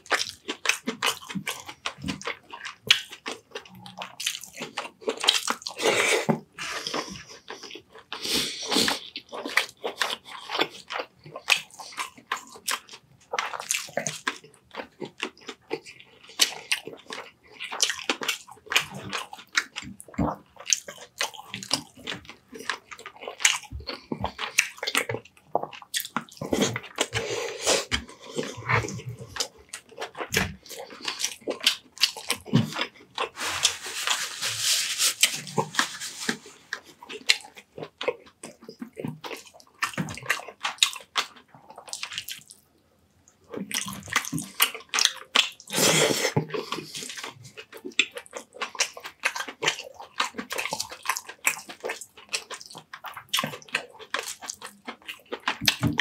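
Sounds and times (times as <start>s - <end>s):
person chewing wetly: 0.0s - 56.0s.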